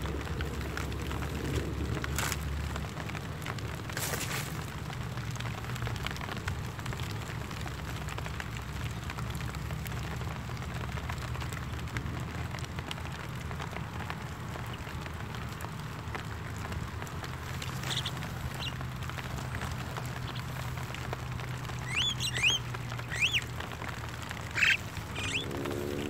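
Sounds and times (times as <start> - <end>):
light drizzle falling: 0.0 - 26.0
low steady hum: 0.0 - 26.0.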